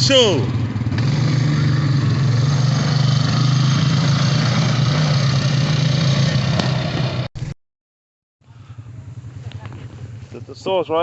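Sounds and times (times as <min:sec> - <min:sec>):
atv engine running at low revs: 0:00.0 - 0:07.6, 0:08.4 - 0:11.0.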